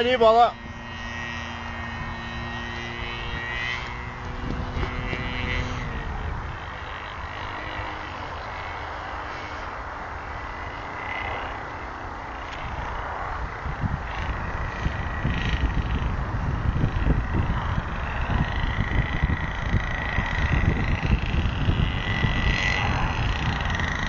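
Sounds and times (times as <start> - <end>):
model airplane engine droning: 0.0 - 24.0
wind rumbling on microphone: 0.0 - 24.0.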